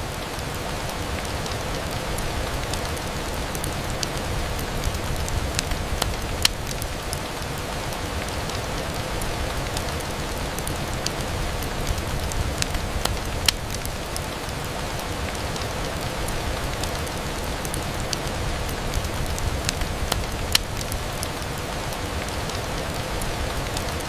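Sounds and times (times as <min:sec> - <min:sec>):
rain pattering on a window: 0:00.0 - 0:24.0.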